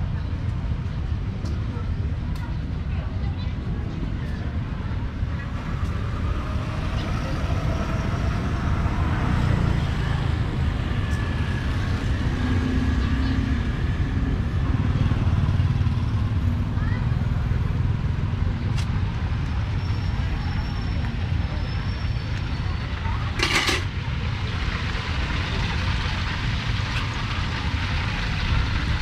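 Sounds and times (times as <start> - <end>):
faint voices: 0.0 - 29.0
motorbikes and cars passing: 2.7 - 29.0.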